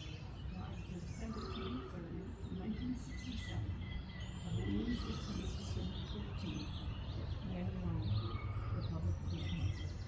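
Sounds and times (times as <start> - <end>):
songbirds chirping and singing: 0.0 - 10.0.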